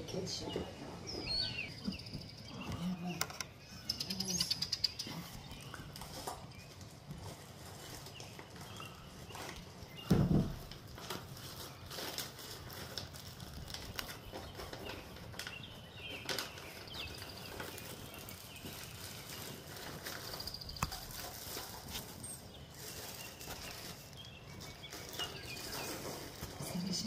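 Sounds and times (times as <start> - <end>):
birds chirping and calling: 0.0 - 27.0
outdoor background noise: 0.0 - 27.0.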